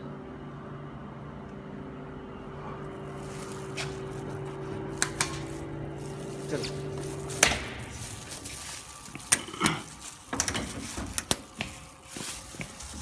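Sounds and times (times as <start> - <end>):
oven electrical hum: 0.0 - 13.0.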